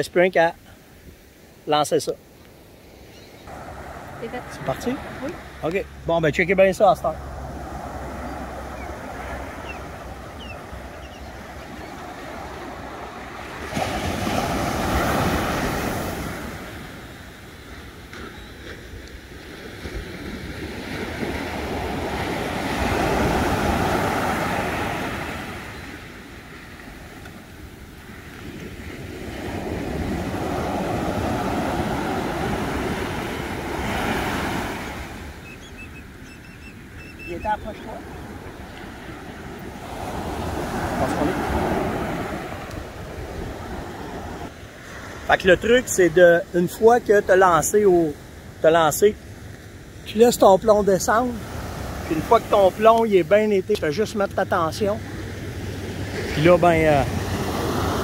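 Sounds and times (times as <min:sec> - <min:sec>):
ocean surf on a beach: 0:00.0 - 0:58.0
wave breaking: 0:03.5 - 0:06.2, 0:06.8 - 0:27.2, 0:28.0 - 0:35.5, 0:37.2 - 0:47.8, 0:50.9 - 0:58.0.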